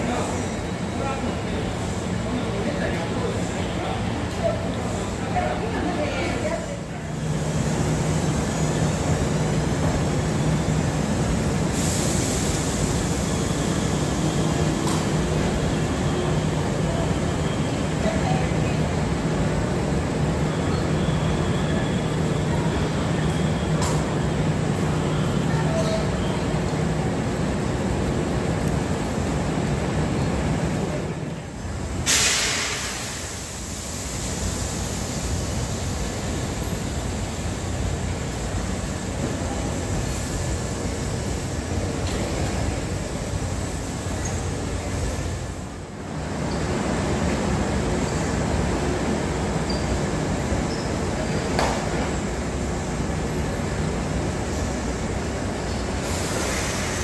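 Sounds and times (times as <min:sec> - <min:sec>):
trains humming at platform: 0:00.0 - 0:57.0.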